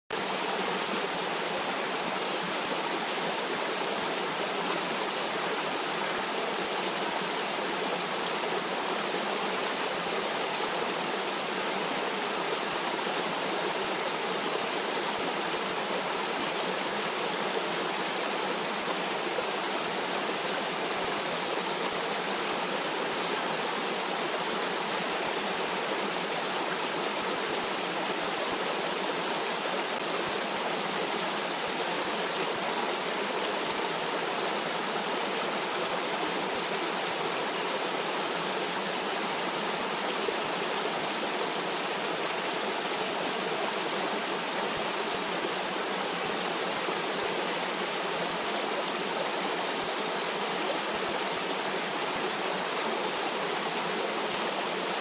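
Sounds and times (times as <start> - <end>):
stream of water flowing: 0.1 - 55.0.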